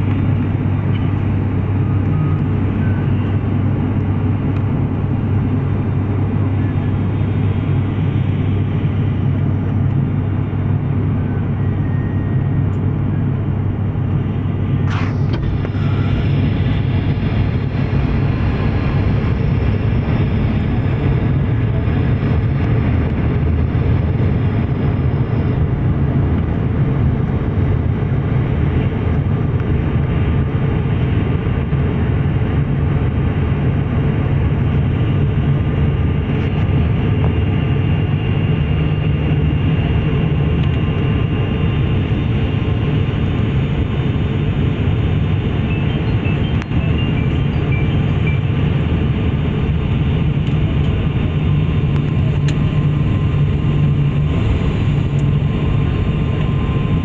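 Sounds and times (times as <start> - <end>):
turboprop engines droning in cabin: 0.0 - 57.0.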